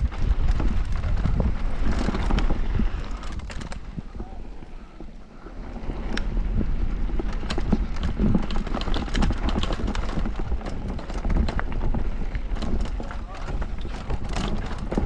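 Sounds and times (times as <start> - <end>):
bike chain and frame clatter: 0.0 - 15.0
tyres over dirt and rocks: 0.0 - 15.0.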